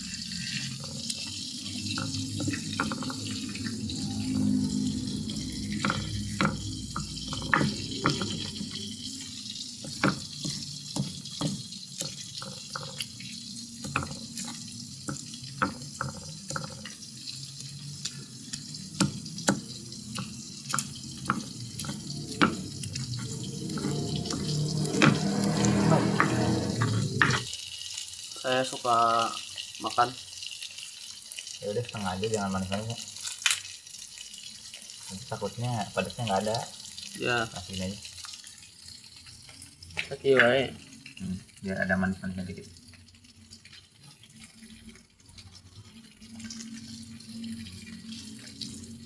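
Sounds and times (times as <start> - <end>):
food sizzling in hot oil: 0.0 - 49.0
oil popping and crackling: 0.0 - 49.0.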